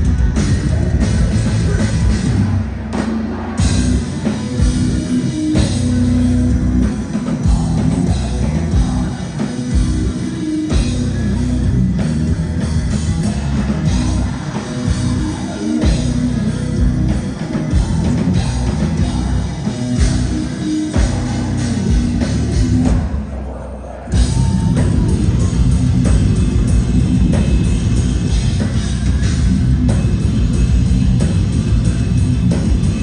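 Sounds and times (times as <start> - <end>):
fast drum kit: 0.0 - 23.4, 24.1 - 33.0
distorted electric guitars: 0.0 - 33.0.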